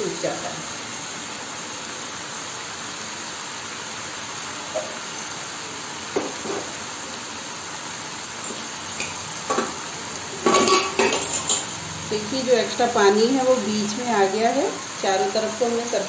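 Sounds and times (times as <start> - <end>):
water bubbling and sizzling in pan: 0.0 - 16.0.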